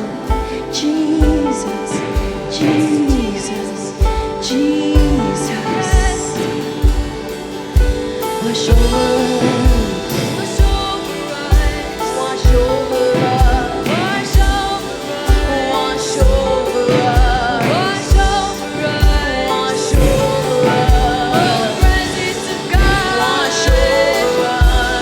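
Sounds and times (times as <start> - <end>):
person singing: 0.0 - 25.0
sustained chords: 0.0 - 25.0.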